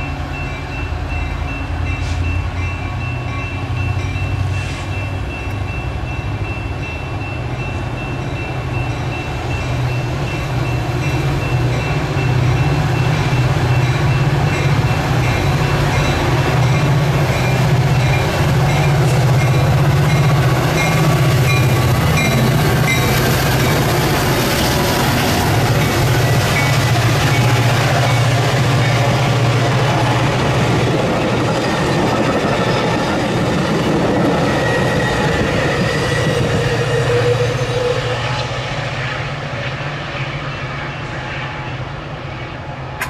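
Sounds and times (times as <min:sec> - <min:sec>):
diesel locomotive engine humming: 0:00.0 - 0:43.0.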